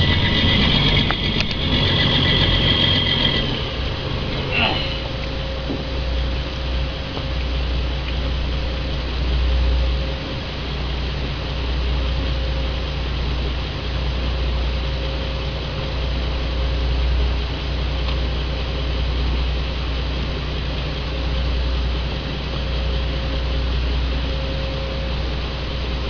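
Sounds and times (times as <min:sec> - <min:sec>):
boat engine rumbling: 0:00.0 - 0:26.0
wind and water hiss: 0:00.0 - 0:26.0.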